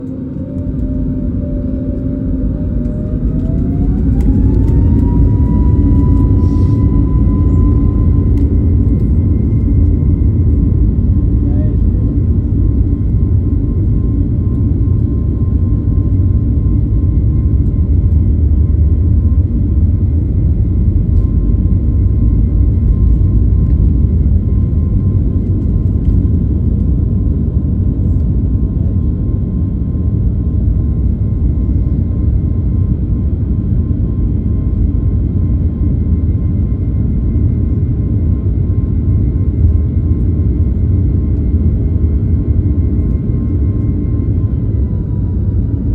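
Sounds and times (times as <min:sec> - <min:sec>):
airliner taking off: 0:00.0 - 0:45.9.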